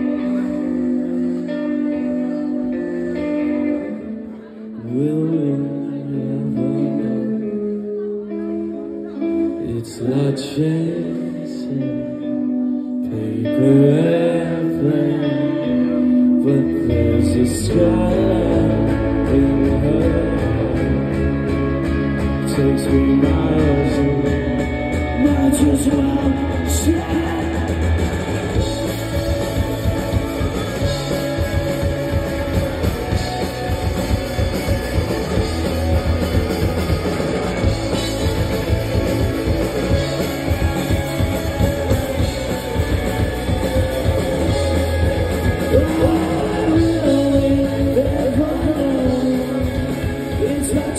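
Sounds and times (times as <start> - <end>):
drums: 0.0 - 12.7, 13.4 - 50.9
electric guitar: 0.0 - 50.9
live rock band playing: 0.0 - 50.9
person singing: 0.0 - 50.9.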